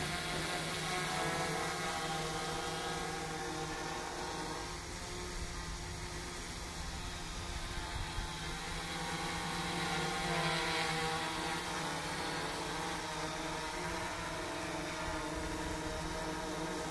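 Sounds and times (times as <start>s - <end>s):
drone propellers whirring: 0.0s - 16.9s.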